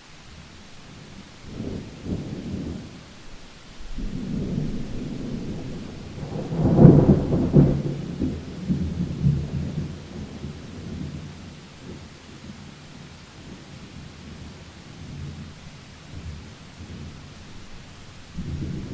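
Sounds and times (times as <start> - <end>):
rain falling: 0.0 - 18.9
thunder rumbling: 1.0 - 3.2, 3.8 - 12.2, 13.4 - 18.9.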